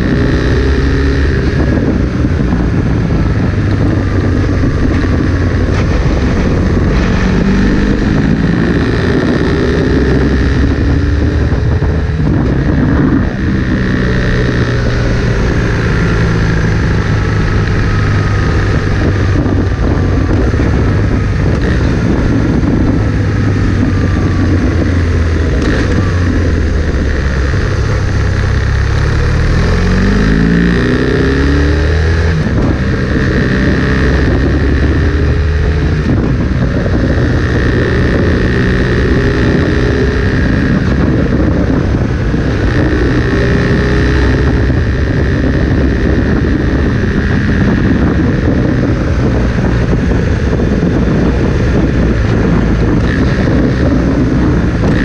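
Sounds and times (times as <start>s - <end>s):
motorcycle engine revving: 0.0s - 55.0s
wind rushing past: 0.0s - 55.0s.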